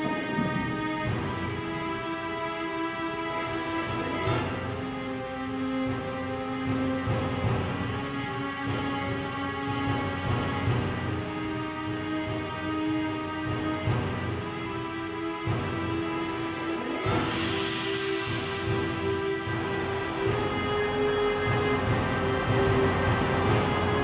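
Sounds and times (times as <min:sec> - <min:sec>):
slow music of held notes: 0:00.0 - 0:24.0
steady rain: 0:00.0 - 0:24.0
thunder rumbling: 0:00.0 - 0:24.0.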